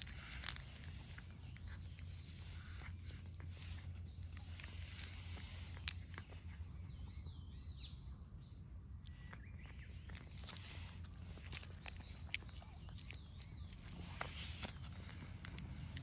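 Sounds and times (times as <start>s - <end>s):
cat crunching food: 0.0s - 7.0s, 9.0s - 16.0s
low outdoor hum: 0.0s - 16.0s.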